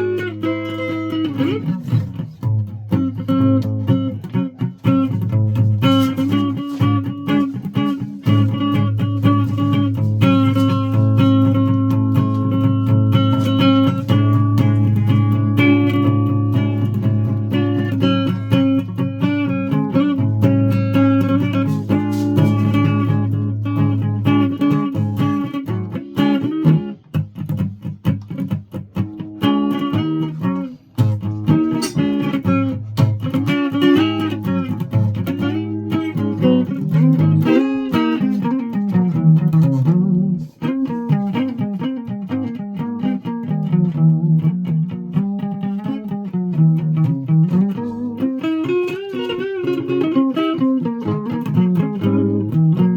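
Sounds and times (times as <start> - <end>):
guitars jamming: 0.0 - 52.9.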